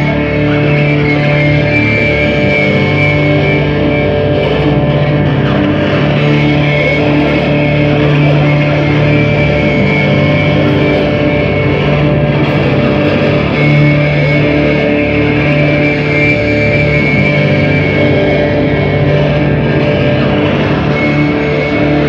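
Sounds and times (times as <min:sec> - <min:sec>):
dense held tones: 0:00.0 - 0:22.0
loud drone rock electric guitar: 0:00.0 - 0:22.0.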